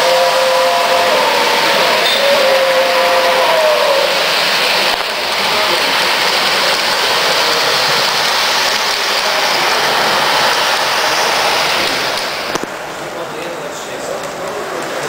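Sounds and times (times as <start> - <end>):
model train running on metal track: 0.0 - 15.0.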